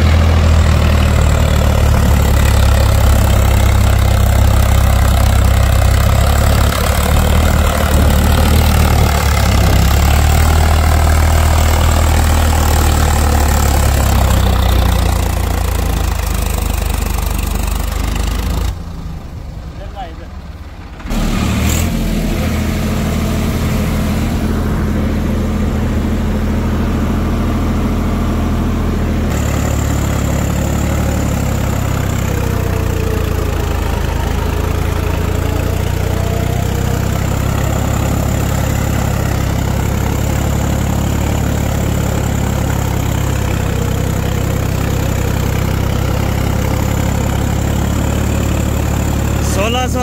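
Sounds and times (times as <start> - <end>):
tractor diesel engine under load: 0.0 - 50.0.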